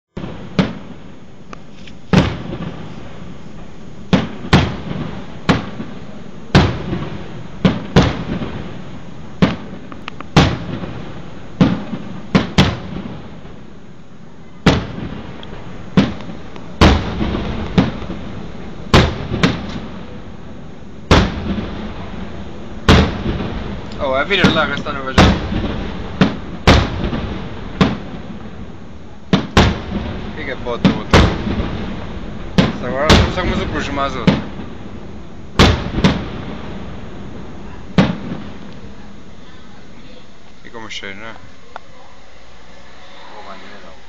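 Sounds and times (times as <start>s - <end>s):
firework shells booming: 0.2s - 44.0s.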